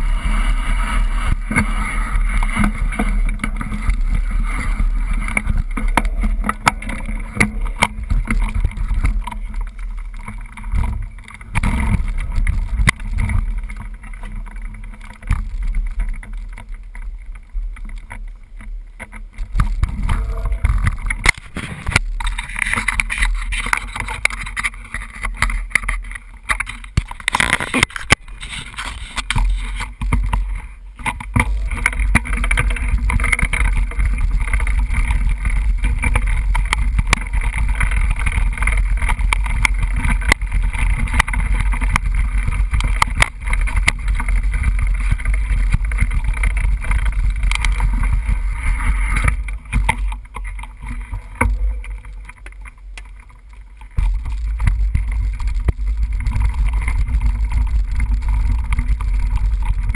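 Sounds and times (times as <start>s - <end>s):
bike knocks and rattles: 0.0s - 59.9s
bike tyre noise: 0.0s - 59.9s.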